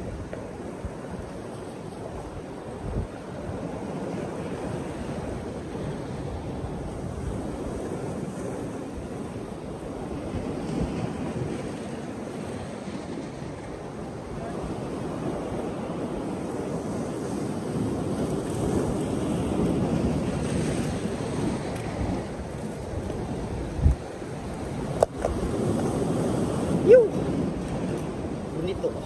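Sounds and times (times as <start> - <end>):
surf breaking over rocks: 0.0 - 29.0
wind buffeting microphone: 0.0 - 29.0.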